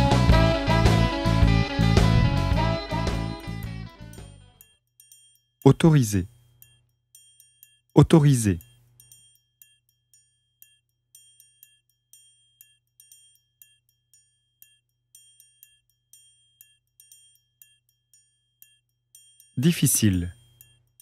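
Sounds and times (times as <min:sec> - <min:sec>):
bell-like tinkling music: 0:02.4 - 0:21.0.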